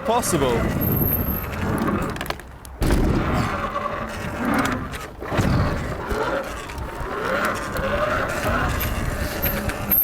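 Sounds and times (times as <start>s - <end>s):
tyres and wind rumble: 0.0s - 10.0s.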